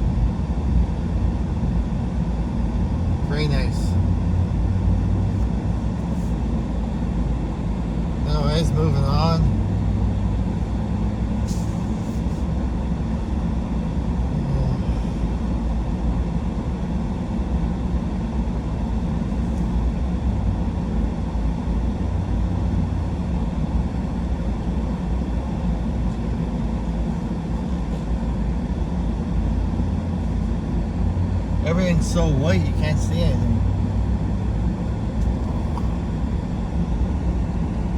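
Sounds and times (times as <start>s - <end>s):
truck engine: 0.0s - 15.8s, 19.4s - 37.9s
road noise: 0.0s - 37.9s.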